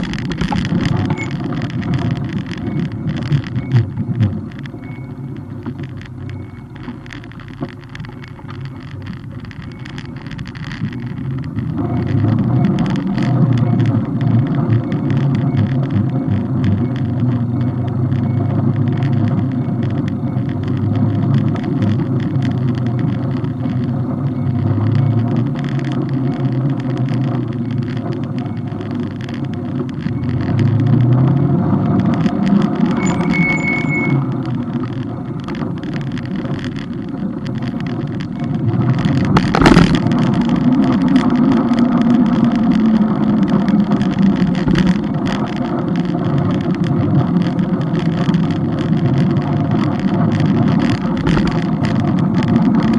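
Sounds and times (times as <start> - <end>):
vehicle engine hum: 0.0 - 52.9.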